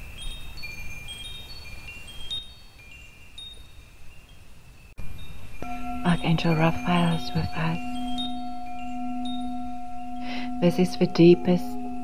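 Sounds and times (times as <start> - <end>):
wind chimes ringing: 0.0 - 12.0.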